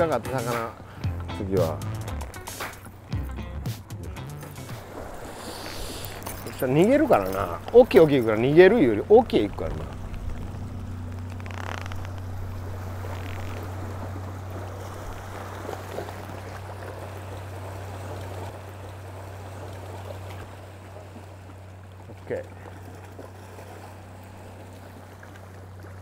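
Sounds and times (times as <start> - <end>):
water lapping and trickling: 0.0 - 26.0
steady low hum: 4.7 - 26.0.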